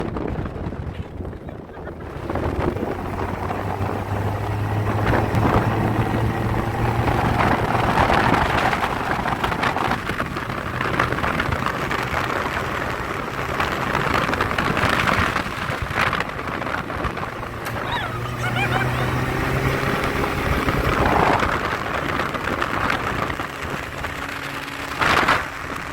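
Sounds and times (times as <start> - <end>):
jeep engine running: 0.0 - 25.9.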